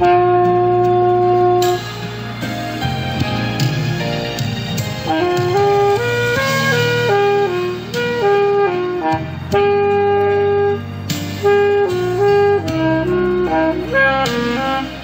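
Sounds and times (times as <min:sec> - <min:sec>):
woodwind melody: 0:00.0 - 0:02.0, 0:05.0 - 0:15.0
low accompaniment: 0:00.0 - 0:15.0.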